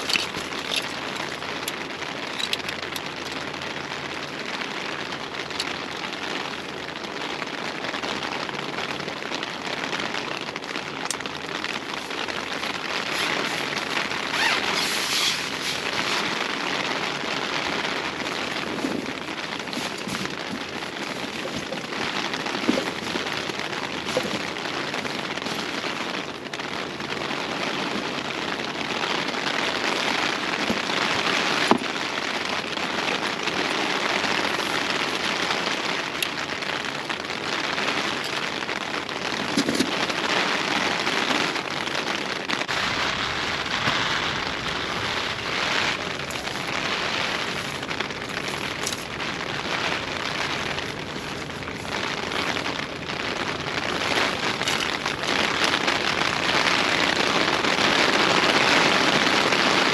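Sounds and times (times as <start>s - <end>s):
sharp raindrop impacts: 0.0s - 59.9s
steady rain hiss: 0.0s - 59.9s.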